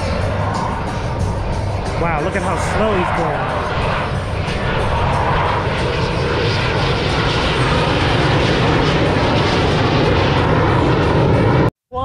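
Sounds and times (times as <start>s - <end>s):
fighter jet engine roar: 0.0s - 11.7s.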